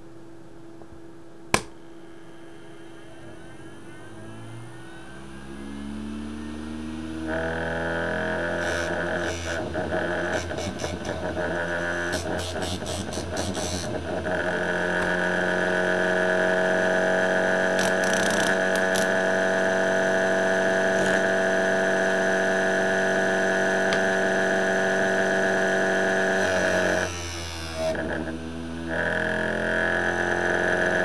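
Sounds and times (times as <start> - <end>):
motor spinning disc whine: 1.8 - 31.0.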